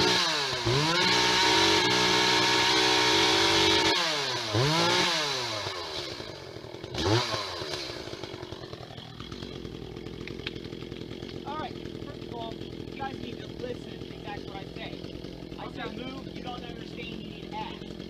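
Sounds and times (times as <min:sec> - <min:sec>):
chainsaw revving and idling: 0:00.0 - 0:18.0.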